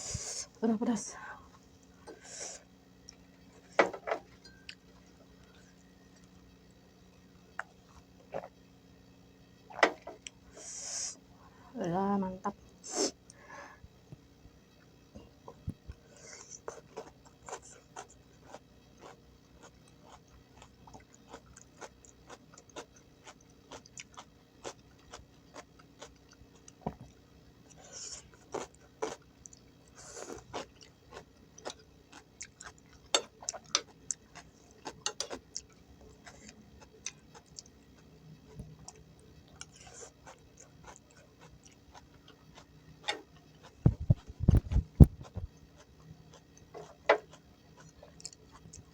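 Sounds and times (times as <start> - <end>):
person chewing crunchy vegetables: 2.0 - 8.7, 14.8 - 48.9.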